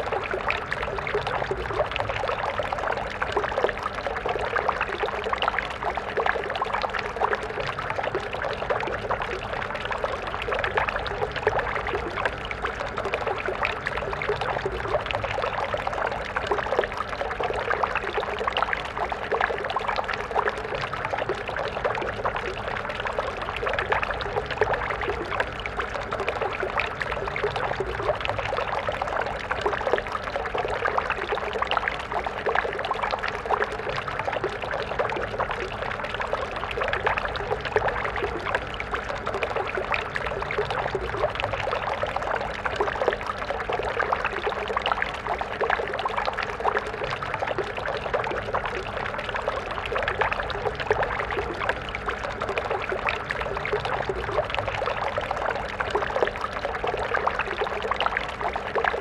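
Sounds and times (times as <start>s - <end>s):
stream babbling and splashing: 0.0s - 59.0s.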